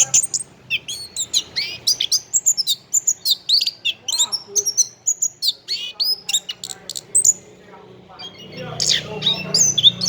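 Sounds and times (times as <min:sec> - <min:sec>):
thrush singing: 0:00.0 - 0:10.0.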